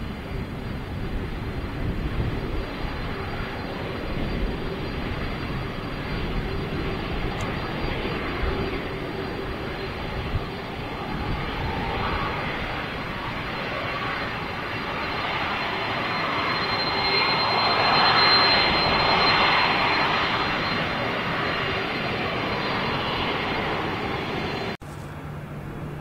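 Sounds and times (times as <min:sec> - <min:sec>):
jet airliner engines running: 0:00.0 - 0:26.0.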